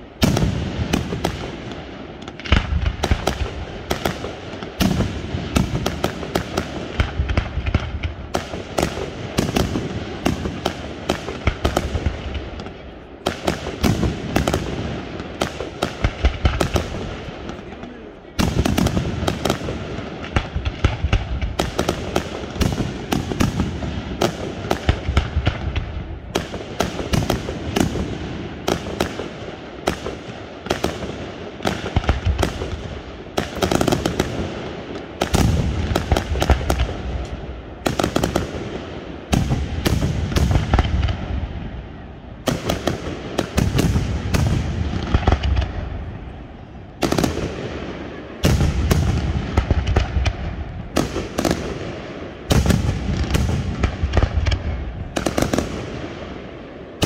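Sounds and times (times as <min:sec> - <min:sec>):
fireworks bursting with sharp bangs: 0:00.0 - 0:57.0.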